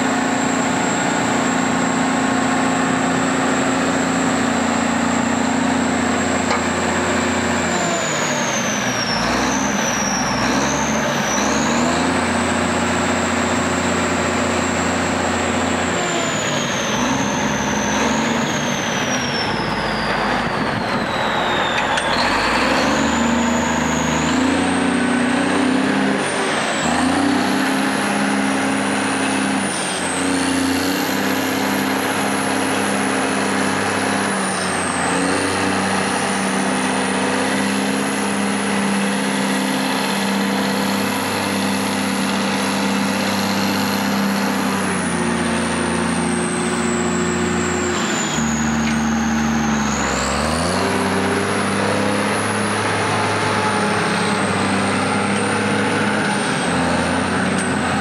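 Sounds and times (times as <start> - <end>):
diesel engine running: 0.0 - 58.0
high hydraulic whine: 0.0 - 58.0.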